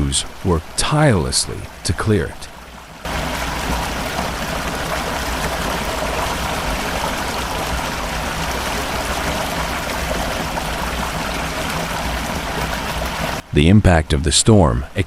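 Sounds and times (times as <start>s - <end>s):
floodwater rushing: 0.0s - 13.6s.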